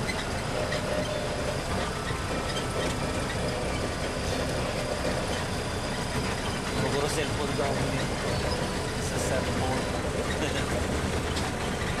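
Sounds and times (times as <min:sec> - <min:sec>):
tram engine running: 0:00.0 - 0:12.0.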